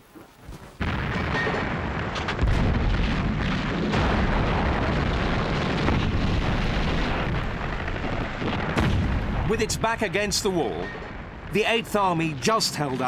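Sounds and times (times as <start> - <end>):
sharp blasts: 0.8 - 12.6
heavy guns firing: 0.8 - 12.8.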